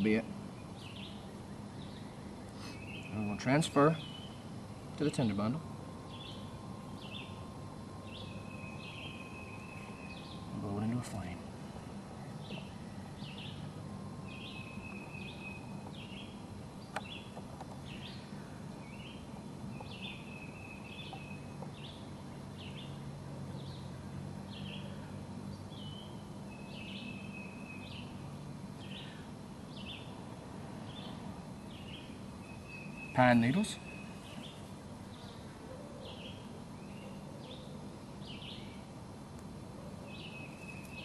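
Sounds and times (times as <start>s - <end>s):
songbird chirping: 0.0s - 41.0s
steady low hum: 0.0s - 41.0s.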